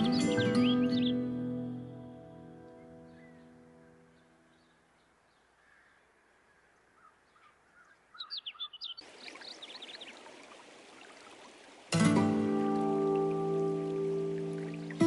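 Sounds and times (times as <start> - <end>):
small songbirds chirping: 0.0 - 1.4, 2.6 - 11.8, 12.6 - 15.0
steady outdoor hiss: 0.0 - 15.0.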